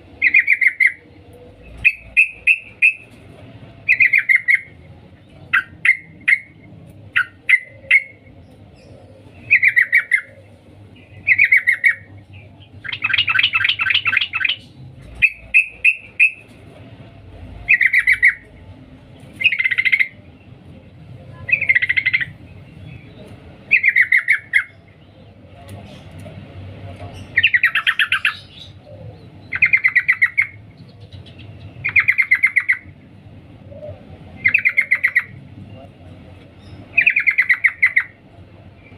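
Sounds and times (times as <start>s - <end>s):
bird calling cuk cuk: 0.0s - 38.9s
bird chattering: 0.1s - 3.2s, 3.8s - 16.6s, 17.6s - 18.6s, 19.3s - 20.4s, 21.3s - 33.0s, 33.7s - 38.9s.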